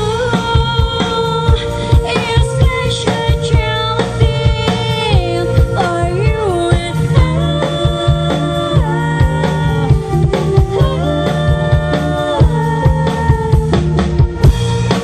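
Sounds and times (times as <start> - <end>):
drum kit beat: 0.0 - 15.0
pop-rock band playing: 0.0 - 15.0
sliding melodic lead: 0.0 - 15.0.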